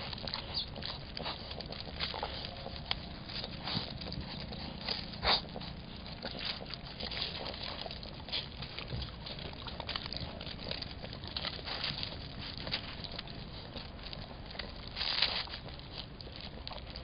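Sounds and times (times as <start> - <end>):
animals clicking and scuffing: 0.0 - 17.0.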